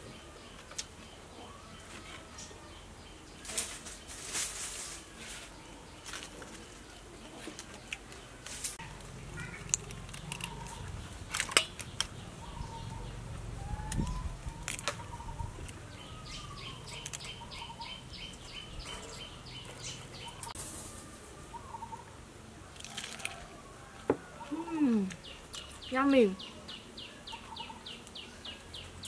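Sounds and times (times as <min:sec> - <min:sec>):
birds chirping: 0:05.2 - 0:29.0.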